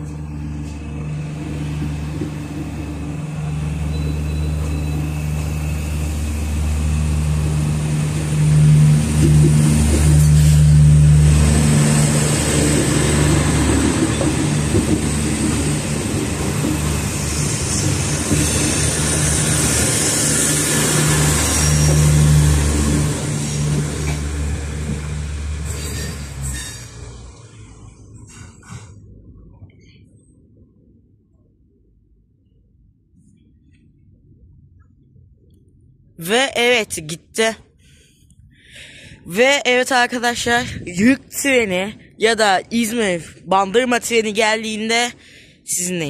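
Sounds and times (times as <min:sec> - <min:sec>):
diesel train engine hum: 0:00.0 - 0:45.2.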